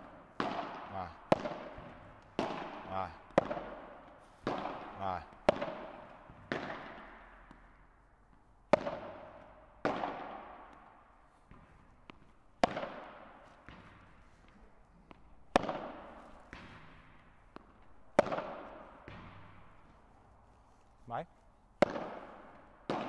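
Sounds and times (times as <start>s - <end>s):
rackets striking balls: 0.0s - 20.9s, 21.7s - 23.0s.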